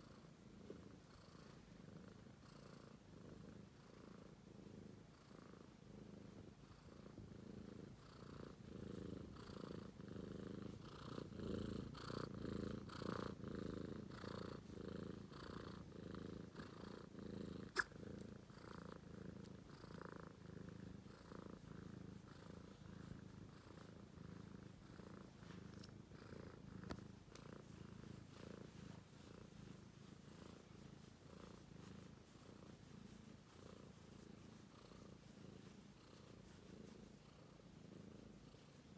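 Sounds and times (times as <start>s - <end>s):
kitten purring: 0.0s - 38.9s.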